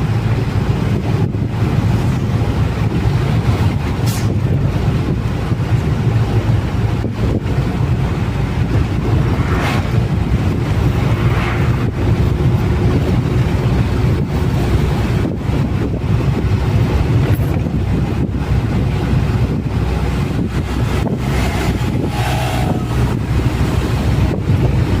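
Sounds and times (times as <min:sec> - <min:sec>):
truck engine and road rumble: 0:00.0 - 0:25.0
wind buffeting microphone: 0:00.0 - 0:25.0.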